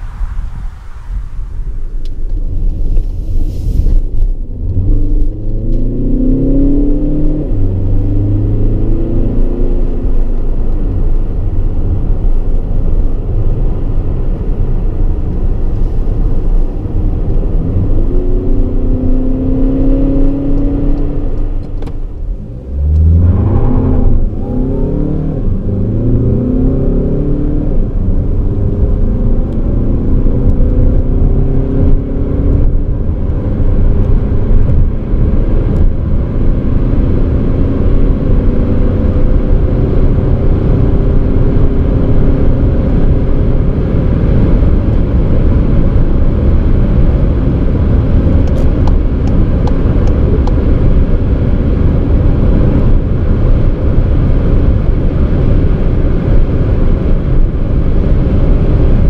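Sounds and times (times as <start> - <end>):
diesel engine accelerating: 0.0 - 59.0
wind and road noise: 0.0 - 59.0.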